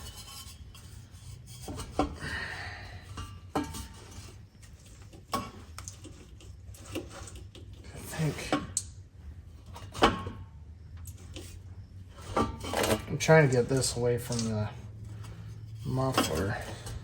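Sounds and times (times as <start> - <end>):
low steady hum: 0.0 - 17.0
metal pipe scraping: 0.0 - 17.0.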